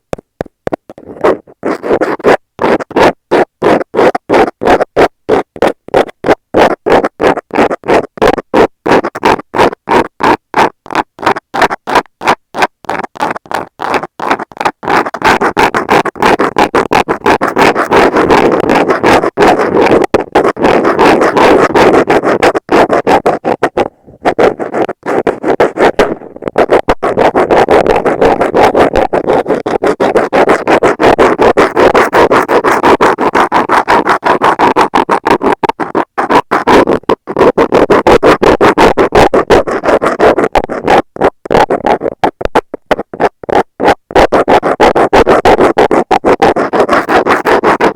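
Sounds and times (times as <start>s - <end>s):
metal scaler scratching microphone: 0.1s - 47.9s.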